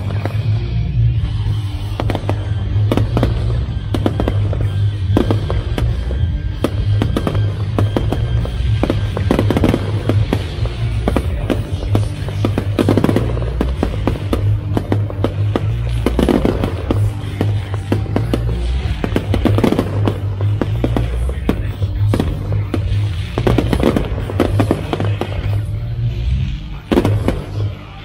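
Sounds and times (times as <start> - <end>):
fireworks bangs and crackles: 0.0 - 28.0
loud music with heavy bass: 0.0 - 28.0.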